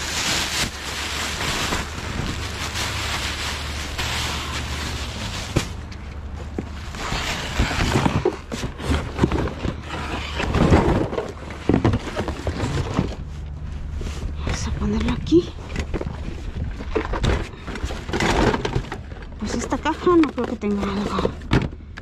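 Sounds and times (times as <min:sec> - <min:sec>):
trash bags and boxes rustling: 0:00.0 - 0:21.8.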